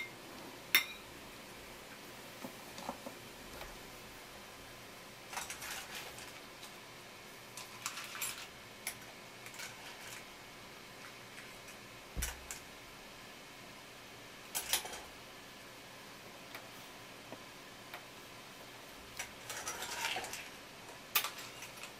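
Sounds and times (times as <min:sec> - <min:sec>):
faint room hum: 0:00.0 - 0:21.9.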